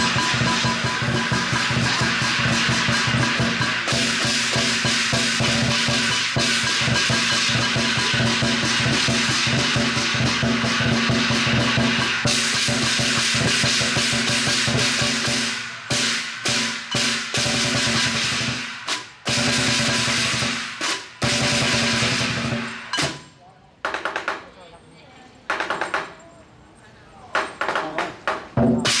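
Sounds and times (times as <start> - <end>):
drum and clashing cymbals: 0.0 - 24.4, 27.4 - 29.0.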